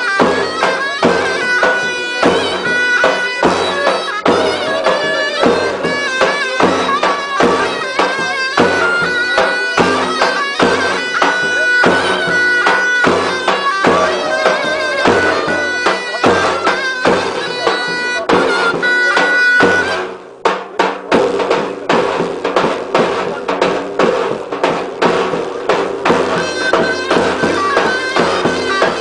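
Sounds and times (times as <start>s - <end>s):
reedy pipe melody: 0.0s - 20.4s, 21.3s - 29.0s
big drum strokes: 0.0s - 29.0s.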